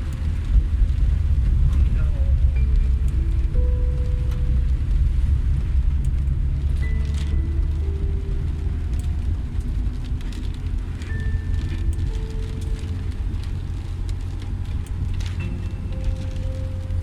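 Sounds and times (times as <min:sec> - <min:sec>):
low rumble of rainy street: 0:00.0 - 0:17.0
slow background music: 0:00.0 - 0:17.0.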